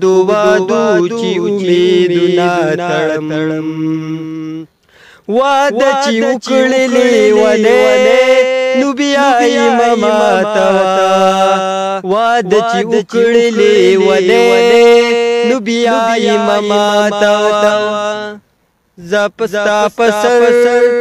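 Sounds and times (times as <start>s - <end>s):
man singing: 0.0s - 4.7s, 5.3s - 18.4s, 19.0s - 21.0s.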